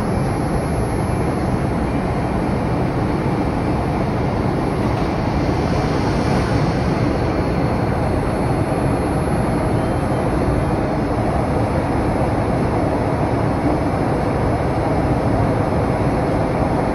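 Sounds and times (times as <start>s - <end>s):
airplane cabin airflow and engine rush: 0.0s - 16.9s.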